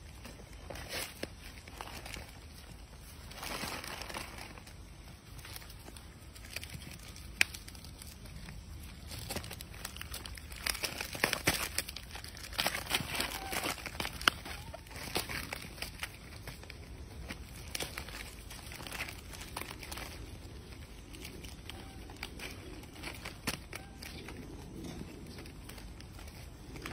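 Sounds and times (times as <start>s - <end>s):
plastic wrappers crinkling and tearing: 0.0s - 26.9s.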